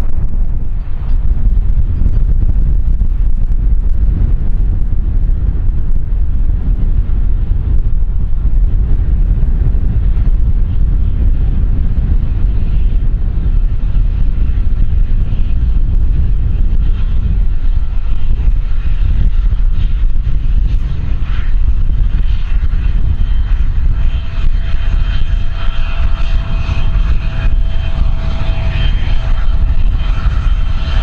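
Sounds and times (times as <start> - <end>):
high turbine whine: 0.0 - 31.0
jet engine low rumble: 0.0 - 31.0
wind buffeting microphone: 0.0 - 31.0.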